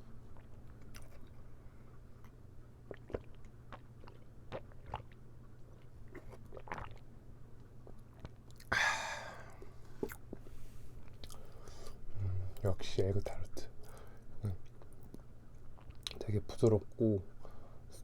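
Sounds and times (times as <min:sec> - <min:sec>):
chewing with moist mouth clicks: 0:00.3 - 0:08.7, 0:09.6 - 0:12.0, 0:13.3 - 0:17.0.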